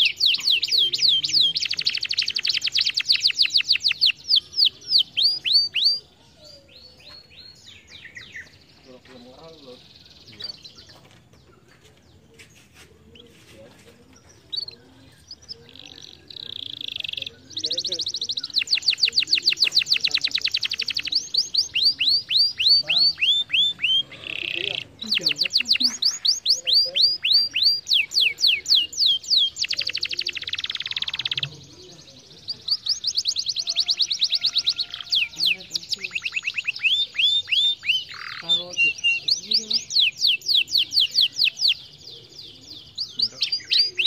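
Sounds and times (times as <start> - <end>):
canary chirping: 0.0 - 44.0
faint background bird twittering: 0.0 - 44.0.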